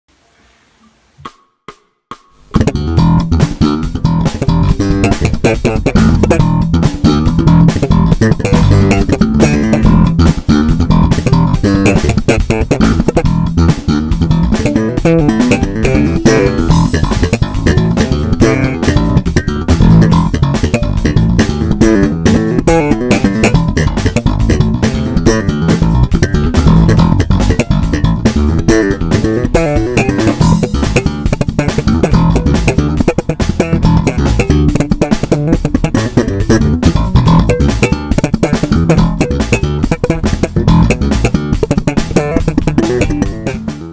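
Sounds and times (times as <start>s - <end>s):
electric bass played fingerstyle: 2.4s - 43.9s.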